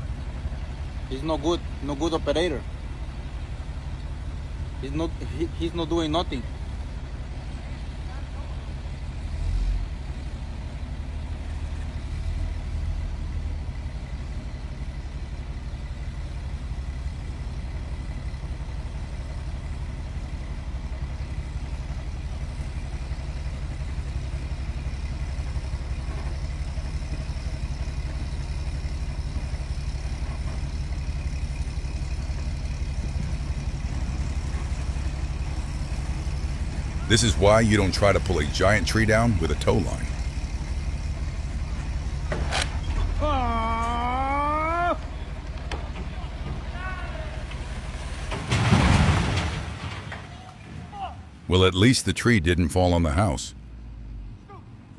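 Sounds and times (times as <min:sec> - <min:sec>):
heavy engine rumbling: 0:00.0 - 0:54.9.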